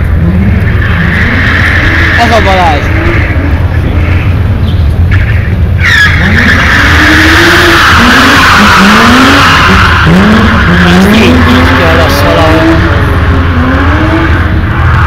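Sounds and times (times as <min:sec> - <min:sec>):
car engine revving: 0:00.0 - 0:15.0
tyres squealing: 0:00.6 - 0:13.7.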